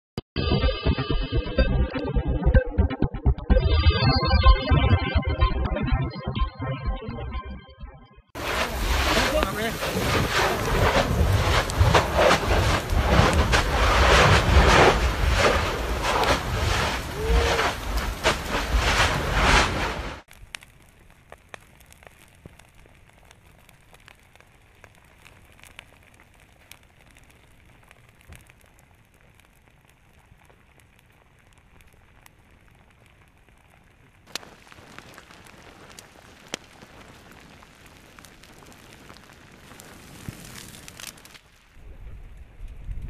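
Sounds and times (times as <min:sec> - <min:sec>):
lava crackling and popping: 0:08.3 - 0:43.0.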